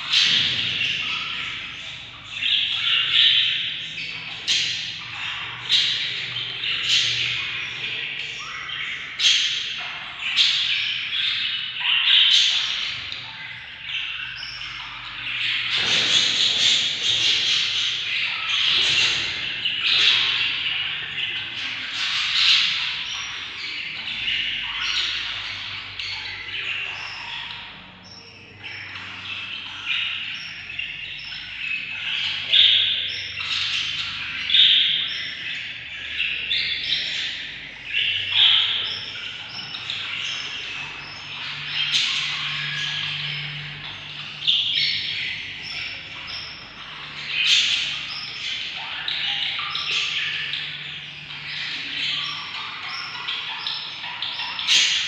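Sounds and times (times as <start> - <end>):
bird chicks chirping and squawking: 0.0 - 55.0.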